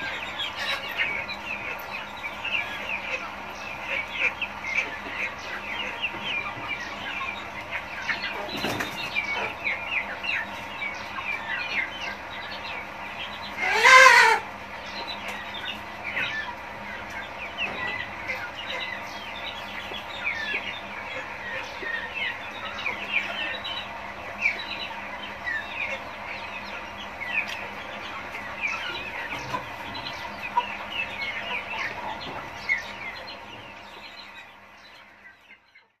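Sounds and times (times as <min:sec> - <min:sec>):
chickens calling: 0:00.0 - 0:36.0.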